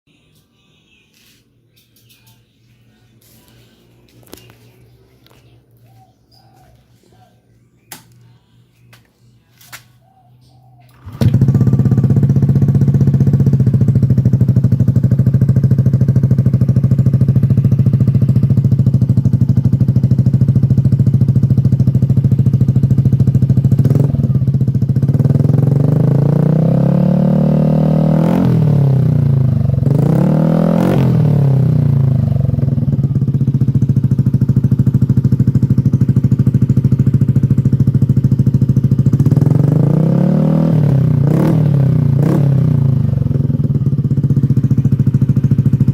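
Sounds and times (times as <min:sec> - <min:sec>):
motorcycle engine idling and revving: 0:03.2 - 0:08.1, 0:08.8 - 0:45.9.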